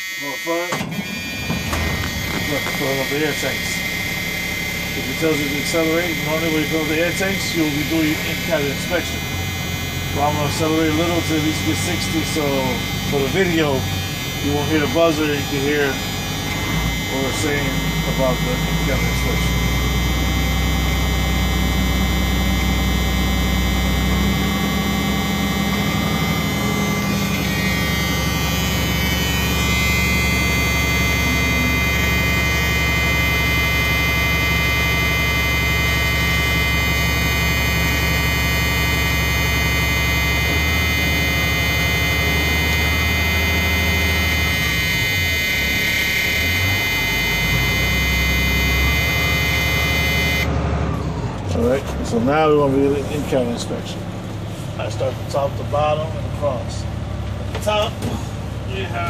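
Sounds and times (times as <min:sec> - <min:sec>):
high warning buzzer: 0:00.0 - 0:50.6.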